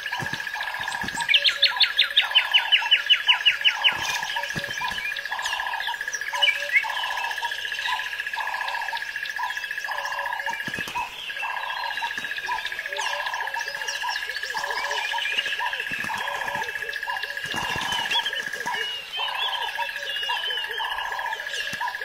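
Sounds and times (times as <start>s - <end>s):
bird chirps: 0.0s - 22.0s
nightingale song: 0.0s - 22.0s.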